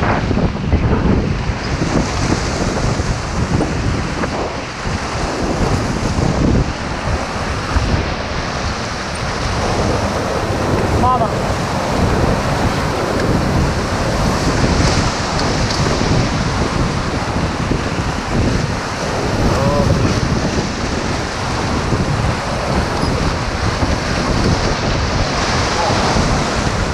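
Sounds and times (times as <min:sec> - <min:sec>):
whitewater rushing over rapids: 0:00.0 - 0:26.9
wind buffeting the microphone: 0:00.0 - 0:26.9.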